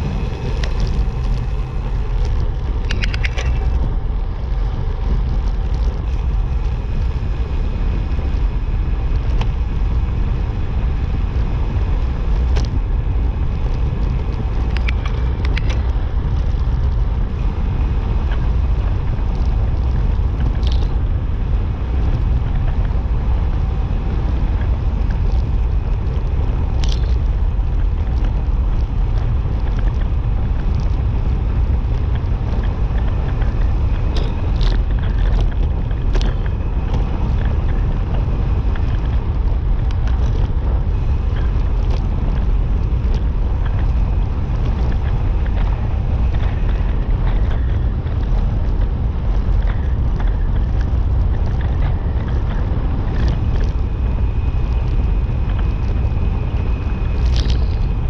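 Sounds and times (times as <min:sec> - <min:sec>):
low rumble: 0:00.0 - 0:58.0
wind buffeting microphone: 0:00.0 - 0:58.0.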